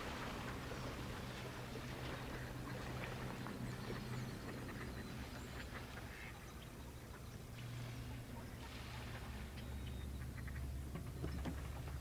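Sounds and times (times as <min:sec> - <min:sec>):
ducks quacking faintly: 0:00.0 - 0:12.0
low steady hum: 0:00.0 - 0:12.0.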